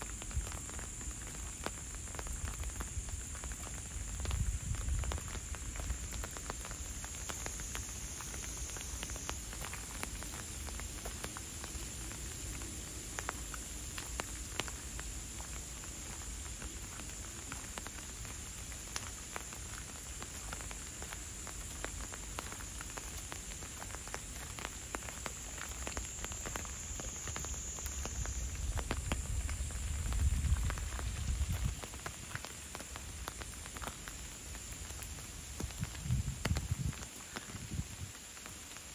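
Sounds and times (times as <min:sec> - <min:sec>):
raindrops ticking: 0:00.0 - 0:38.9
steady rain falling: 0:00.0 - 0:38.9.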